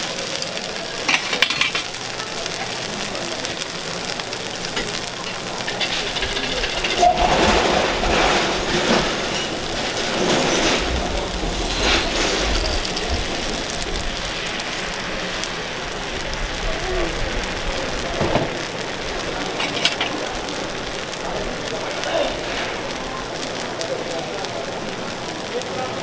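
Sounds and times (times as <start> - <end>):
batter sizzling in oiled pan: 0.0 - 26.0.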